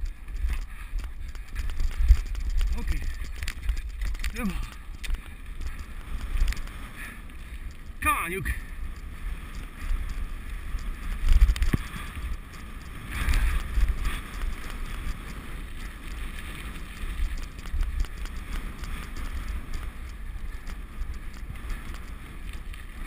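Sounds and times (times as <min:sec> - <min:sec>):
light clicks and rattles: 0:00.0 - 0:23.0
wheels rolling on concrete: 0:00.0 - 0:23.0
wind rumble on microphone: 0:00.0 - 0:23.0.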